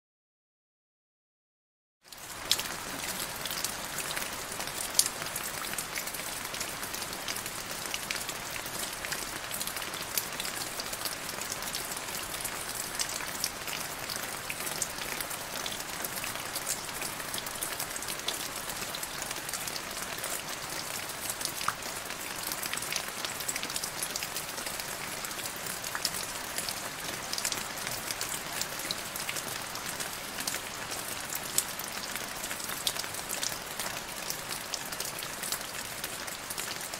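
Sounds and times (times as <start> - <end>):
rain falling into a puddle: 2.1 - 36.9.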